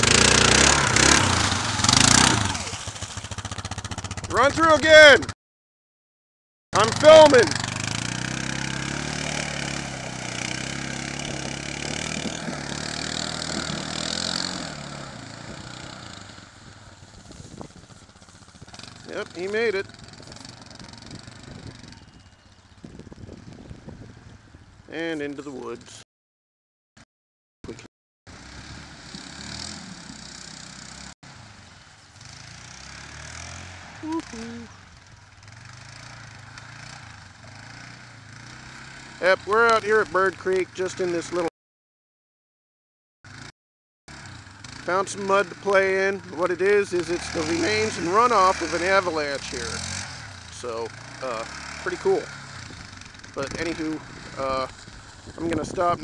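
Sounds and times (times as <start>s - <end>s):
atv engine under throttle: 0.0s - 5.4s, 6.8s - 26.0s, 27.7s - 41.5s, 43.3s - 43.5s, 44.1s - 56.0s.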